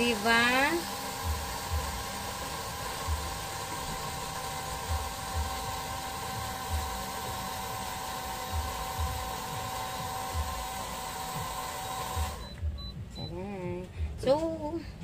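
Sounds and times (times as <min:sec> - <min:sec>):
juicer motor whining: 0:00.0 - 0:13.0.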